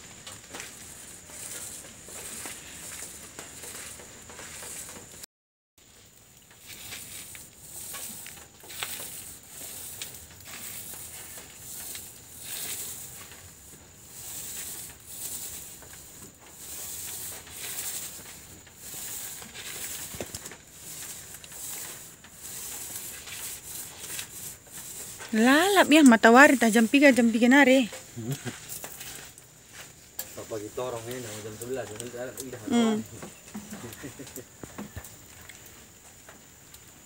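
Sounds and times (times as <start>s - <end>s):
paint roller hissing on wall: 0.0s - 37.0s.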